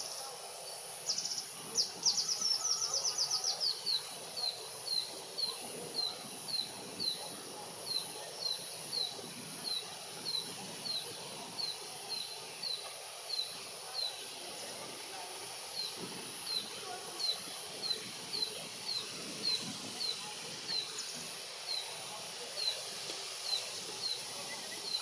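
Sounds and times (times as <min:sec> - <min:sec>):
thin high insect-like hum: 0:00.0 - 0:25.0.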